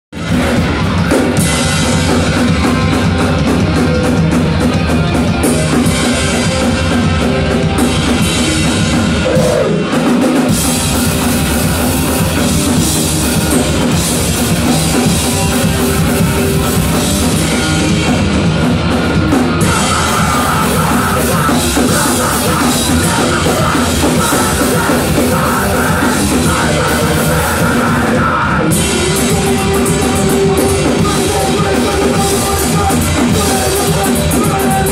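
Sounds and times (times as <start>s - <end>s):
drum kit: 0.1s - 34.9s
electric guitar: 0.1s - 34.9s
punk band playing fast rock: 0.1s - 34.9s.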